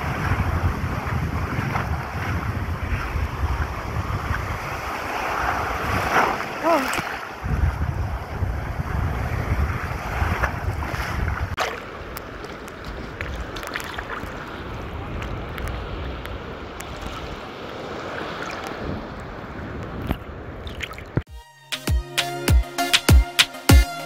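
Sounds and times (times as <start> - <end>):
small waves washing: 0.0 - 21.3
water splashes: 0.0 - 21.3
wind buffeting microphone: 0.0 - 21.3.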